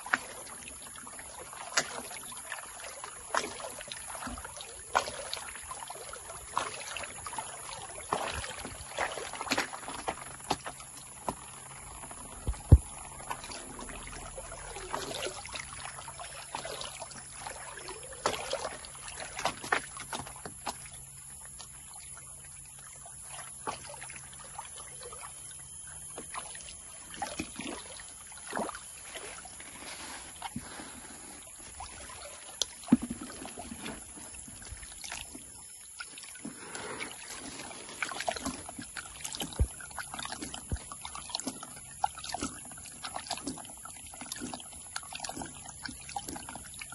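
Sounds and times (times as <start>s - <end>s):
water sloshing in a plastic pan: 0.0s - 46.9s.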